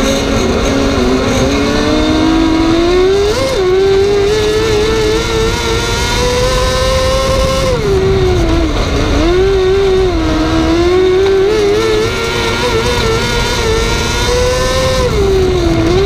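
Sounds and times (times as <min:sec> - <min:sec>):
racing engine at high revs: 0:00.0 - 0:16.0
wind and track noise: 0:00.0 - 0:16.0.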